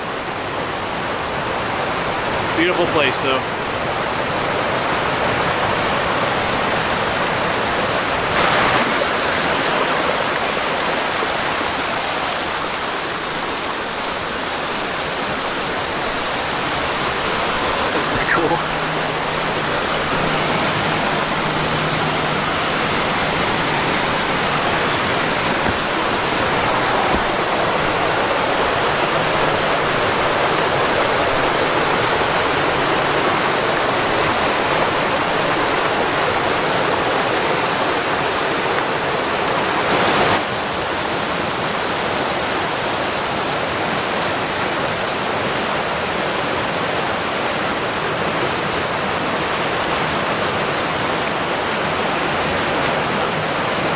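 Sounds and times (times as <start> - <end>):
creek water rushing over rocks: 0.0 - 53.9.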